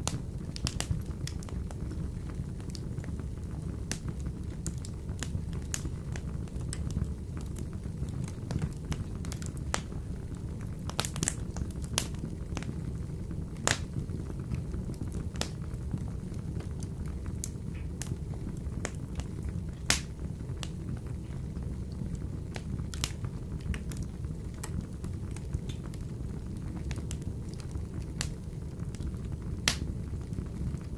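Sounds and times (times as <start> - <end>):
fire crackling and popping: 0.0 - 30.9
wood fire burning in a stove: 0.0 - 30.9.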